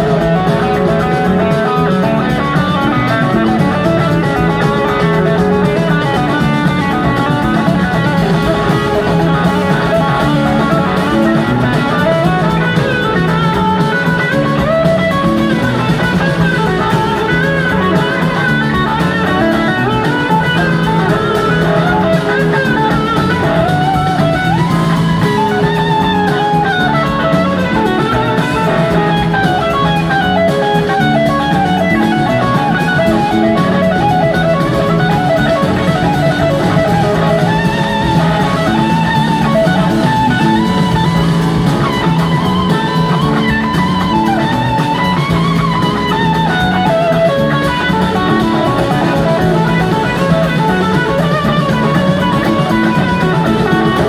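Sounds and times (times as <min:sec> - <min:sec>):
drum kit: 0:00.0 - 0:54.0
electric guitar lead lines: 0:00.0 - 0:54.0.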